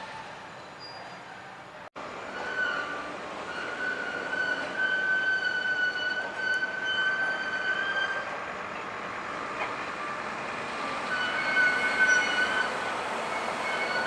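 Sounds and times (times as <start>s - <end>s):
heavy truck moving slowly: 0.0s - 14.0s.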